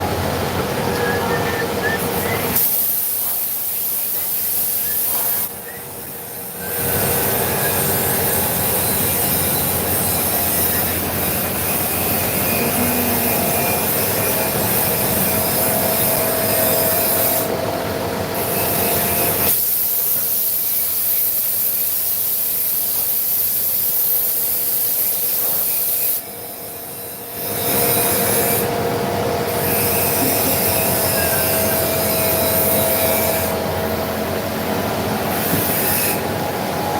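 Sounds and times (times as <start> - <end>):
machining noise with steady tones: 0.0 - 36.9.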